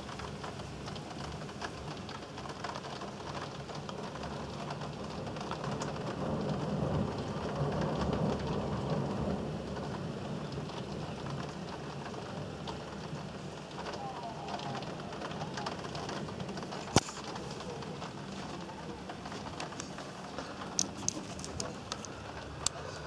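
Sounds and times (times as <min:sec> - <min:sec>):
low rumble of thunder: 0:00.0 - 0:20.8
heavy rain: 0:00.0 - 0:23.0.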